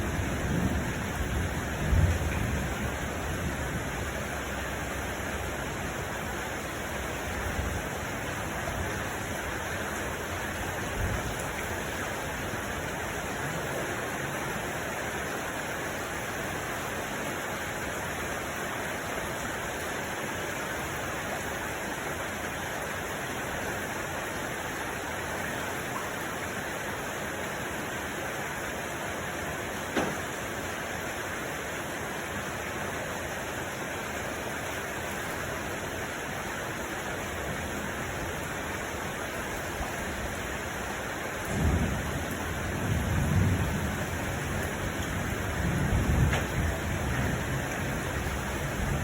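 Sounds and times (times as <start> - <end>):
heavy rain hissing: 0.0 - 49.0.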